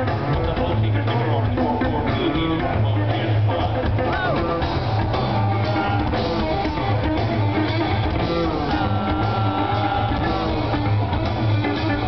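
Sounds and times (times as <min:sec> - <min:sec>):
electric guitar: 0:00.0 - 0:12.0
plucked bass guitar: 0:00.0 - 0:12.0
rock band playing live: 0:00.0 - 0:12.0.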